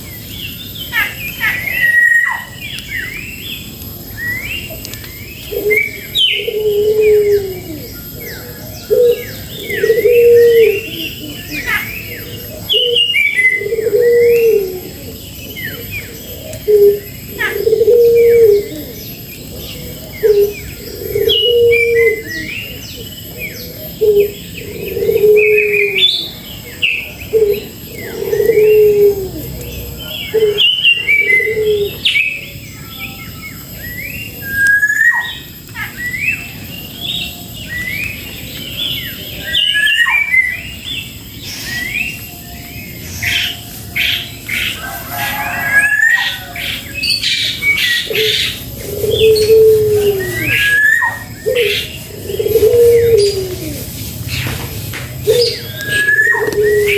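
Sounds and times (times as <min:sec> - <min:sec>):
dove cooing: 0:00.0 - 0:32.5, 0:43.0 - 0:56.9
birds chirping and whistling: 0:00.0 - 0:56.9.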